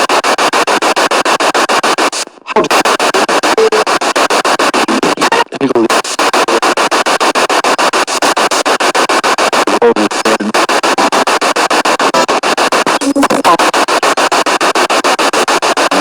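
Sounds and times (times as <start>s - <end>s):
radio static chopping rapidly: 0.0s - 16.0s
snatches of broadcast sound: 0.0s - 16.0s.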